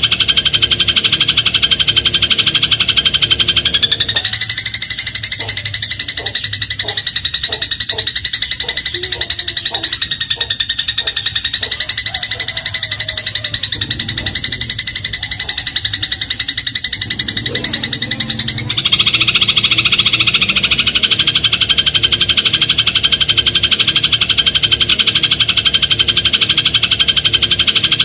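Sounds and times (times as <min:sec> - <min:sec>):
sparrow chattering trill: 0:00.0 - 0:28.0.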